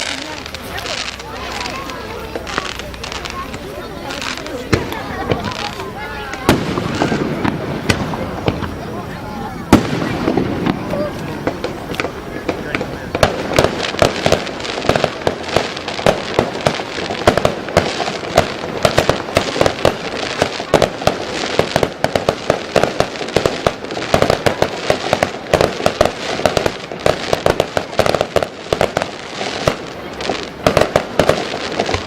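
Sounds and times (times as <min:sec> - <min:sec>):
fireworks bursting: 0:00.0 - 0:32.0.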